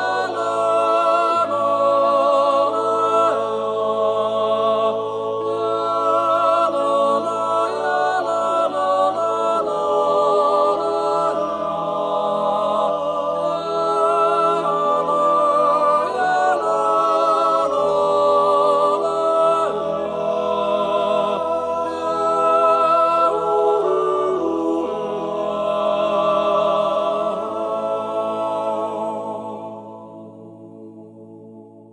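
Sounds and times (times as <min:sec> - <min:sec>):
a cappella voices singing: 0:00.0 - 0:31.9.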